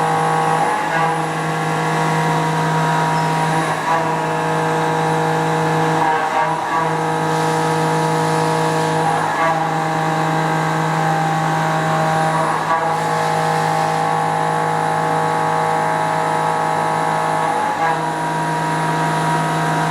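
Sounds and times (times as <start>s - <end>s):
milling machine whine: 0.0s - 19.9s.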